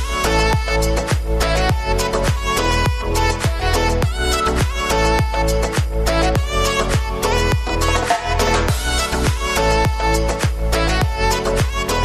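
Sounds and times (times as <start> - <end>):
kick drum beat: 0.0 - 11.9
sustained bass line: 0.0 - 12.0.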